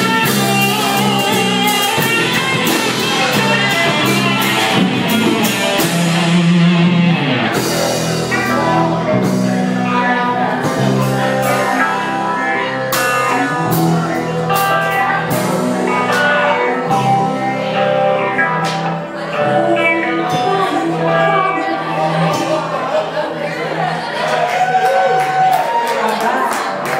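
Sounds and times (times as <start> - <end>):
drum kit: 0.0 - 22.8
electric bass: 0.0 - 25.6
electric guitar: 0.0 - 26.9.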